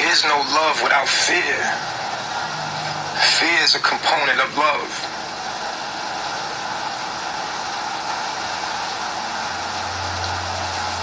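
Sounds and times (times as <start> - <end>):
steady hissing noise: 0.0 - 11.0.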